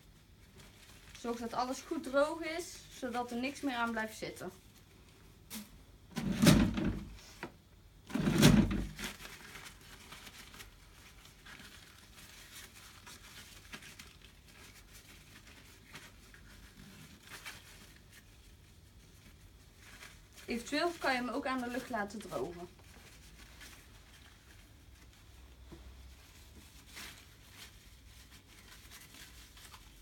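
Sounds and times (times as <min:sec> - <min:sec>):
paper tissue rustling: 0:00.0 - 0:07.4, 0:08.1 - 0:30.0.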